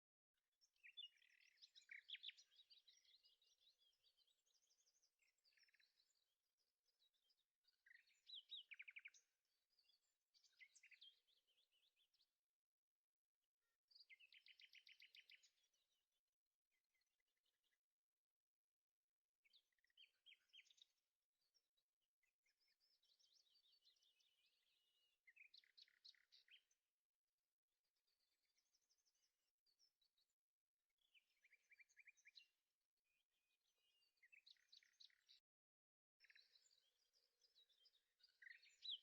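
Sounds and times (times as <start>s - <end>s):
faint songbird singing: 0.0s - 39.0s.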